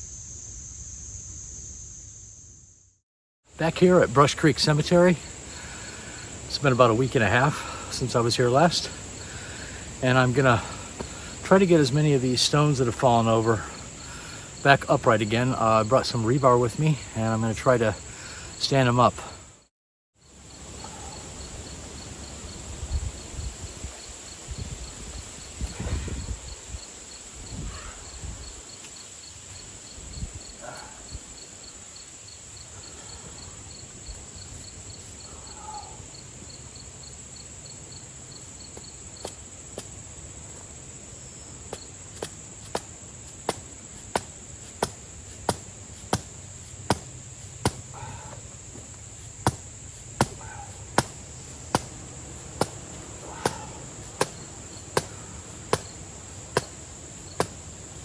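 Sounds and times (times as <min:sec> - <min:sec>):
cricket chirping: 0:00.0 - 0:58.0
insects droning: 0:00.0 - 0:58.0.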